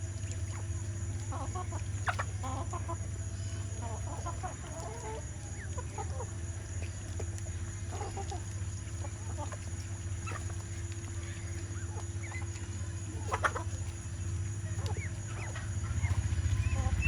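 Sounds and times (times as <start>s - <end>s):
chickens clucking: 0.0s - 17.0s
low hum: 0.0s - 17.0s.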